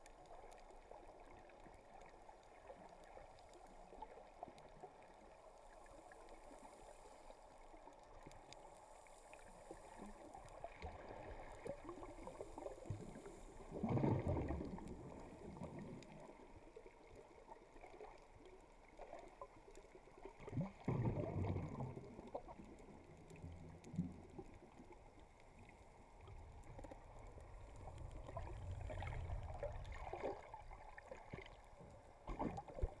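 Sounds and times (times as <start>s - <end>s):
underwater sloshing and gurgling: 0.0s - 33.0s.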